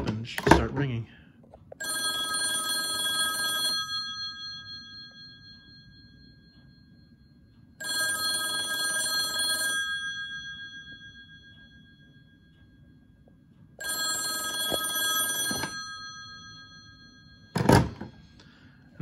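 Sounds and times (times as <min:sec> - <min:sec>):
telephone bell ringing: 0:01.8 - 0:18.3.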